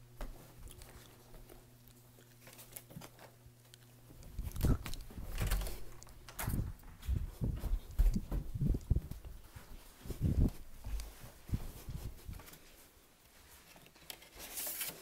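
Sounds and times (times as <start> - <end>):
faint hum: 0.0 - 14.3.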